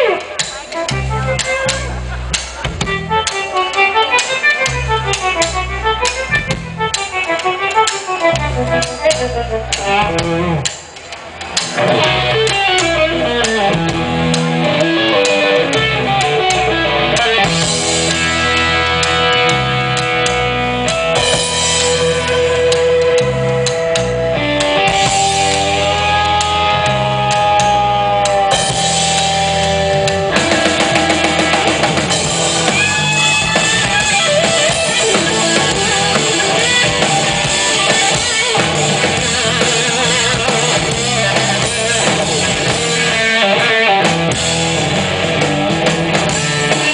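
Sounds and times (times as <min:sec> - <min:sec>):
blues-rock band playing: 0:00.0 - 0:46.9
electric guitar bent notes: 0:00.0 - 0:46.9.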